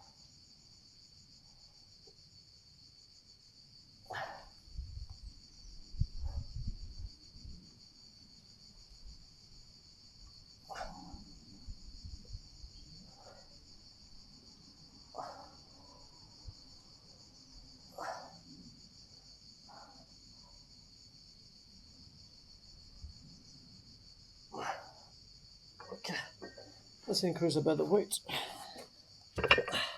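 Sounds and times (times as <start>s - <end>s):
high-pitched insect chorus: 0.0s - 29.9s.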